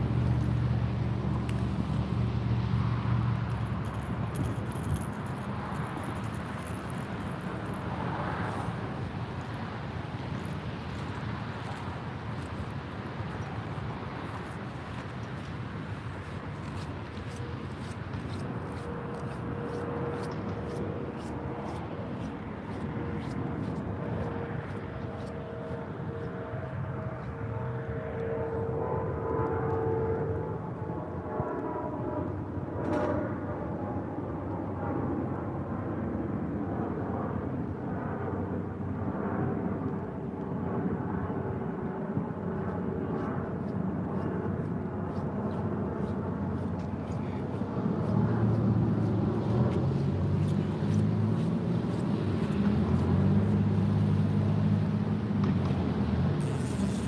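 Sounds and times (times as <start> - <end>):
vehicle engine humming: 0.0 - 32.1, 42.3 - 57.0
road traffic: 0.0 - 57.0.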